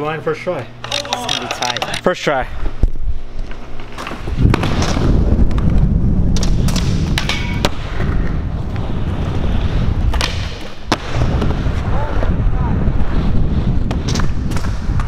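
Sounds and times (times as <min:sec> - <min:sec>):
skateboard wheels rumbling on concrete: 0:02.6 - 0:15.0.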